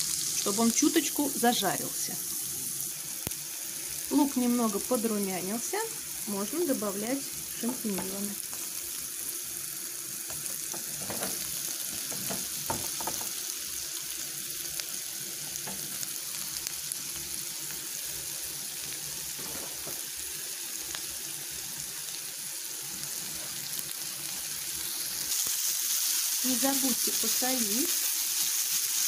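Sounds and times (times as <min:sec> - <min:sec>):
onion sizzling in frying pan: 0:00.0 - 0:29.0.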